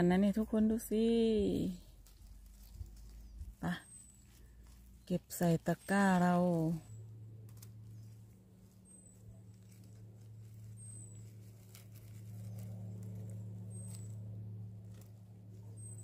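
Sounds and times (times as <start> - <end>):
rustling in dry grass and leaves: 0.0 - 16.0
steady low hum: 0.0 - 16.0.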